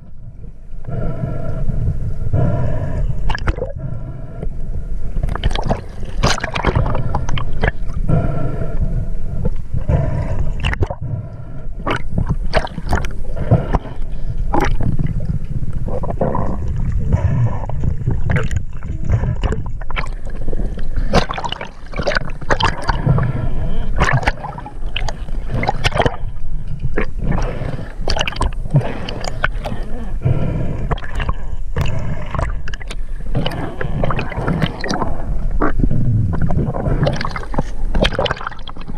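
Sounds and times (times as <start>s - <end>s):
steady low rumble: 0.0s - 38.9s
water sloshing and gurgling: 0.0s - 38.9s.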